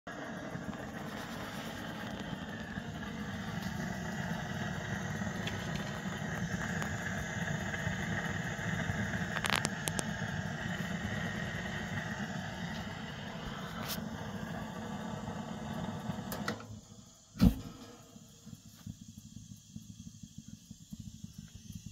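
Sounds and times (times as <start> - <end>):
gas heater rumbling and whining: 0.1 - 21.9.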